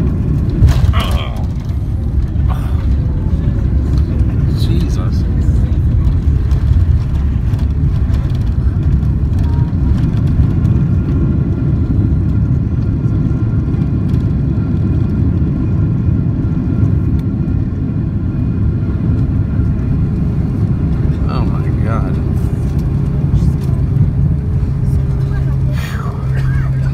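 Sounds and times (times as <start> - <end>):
airliner engines and wheels rumbling: 0.0 - 26.9.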